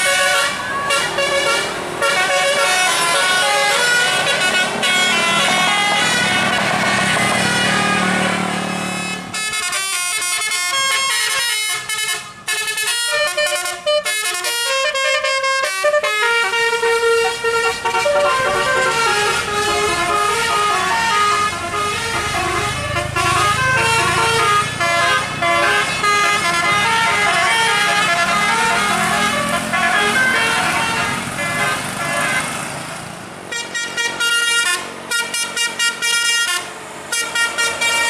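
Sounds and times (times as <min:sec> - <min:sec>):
musical bus horn melody: 0:00.0 - 0:32.8, 0:33.4 - 0:38.0
vehicle engine rumbling: 0:00.0 - 0:38.0.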